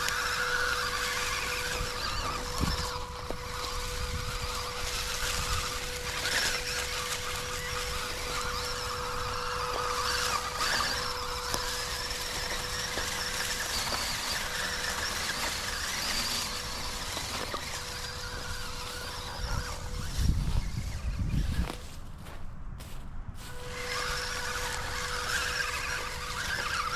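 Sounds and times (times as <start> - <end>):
toy car electric motor whining: 0.0 - 22.4, 23.4 - 26.9.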